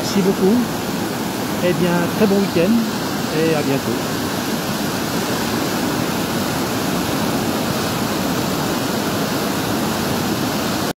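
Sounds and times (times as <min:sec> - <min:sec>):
roar of rushing whitewater: 0:00.0 - 0:10.9.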